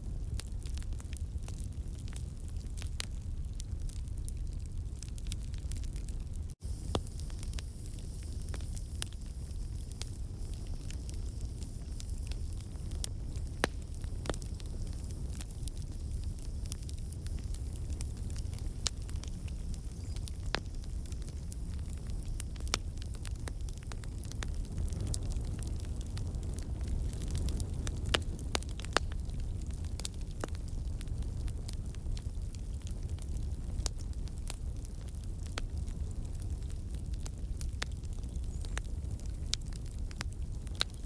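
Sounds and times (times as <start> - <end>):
campfire low rumble: 0.0 - 41.0
wood crackling and popping: 0.2 - 41.0.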